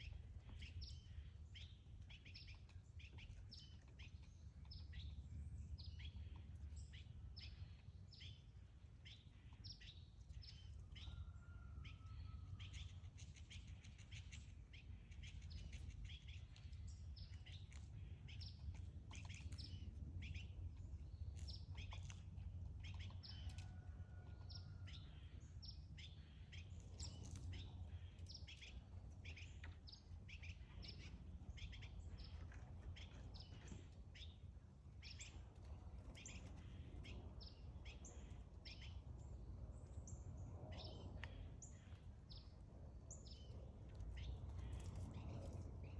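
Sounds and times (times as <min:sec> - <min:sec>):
low background rumble: 0:00.0 - 0:45.9
small birds chirping: 0:00.0 - 0:45.9.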